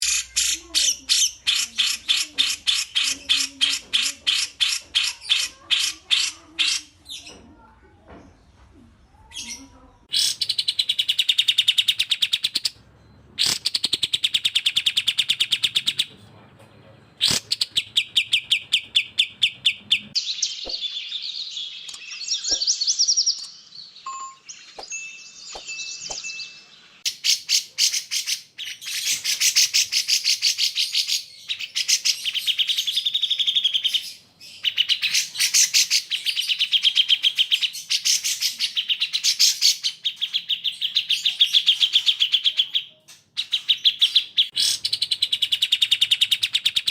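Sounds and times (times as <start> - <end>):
bulbul chirping song: 0.0 - 7.4, 10.1 - 16.2, 17.1 - 46.9.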